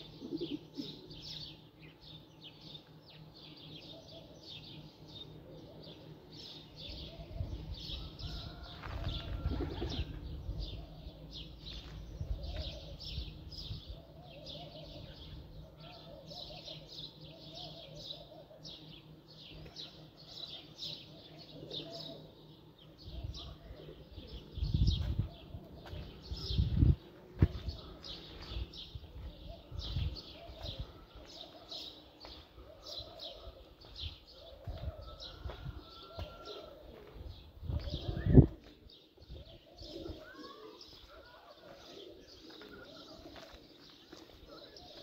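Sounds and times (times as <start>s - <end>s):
pigeons cooing: 0.0s - 1.6s, 3.8s - 45.0s
small birds chirping: 0.0s - 45.0s.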